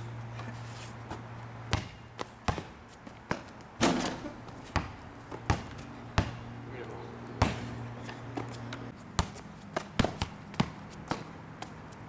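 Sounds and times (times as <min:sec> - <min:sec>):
basketball dribbling: 0:01.1 - 0:06.5, 0:07.4 - 0:11.7.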